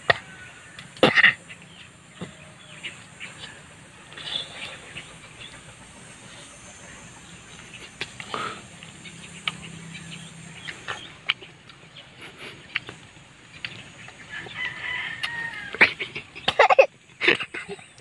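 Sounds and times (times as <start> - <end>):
bird calls: 0.0 - 18.0.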